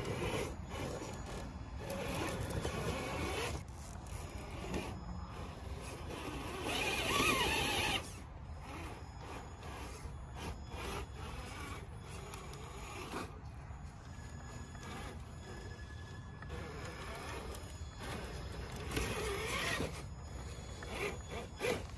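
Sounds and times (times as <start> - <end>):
electric motor and drivetrain whining: 0.0 - 21.9.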